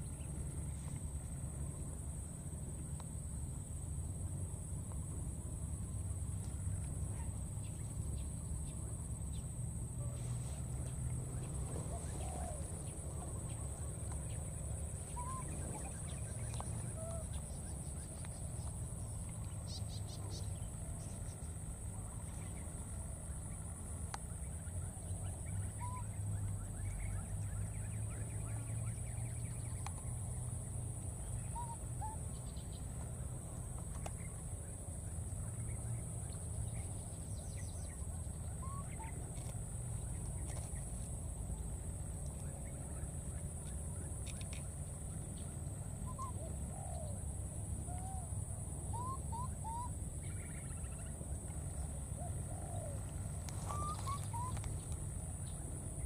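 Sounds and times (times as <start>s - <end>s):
faint chirping calls: 6.0s - 41.3s, 42.2s - 56.0s.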